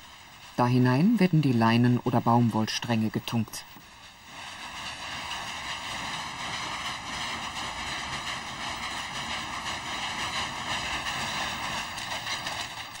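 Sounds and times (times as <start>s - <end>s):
steaming vat hissing: 0.0s - 13.0s.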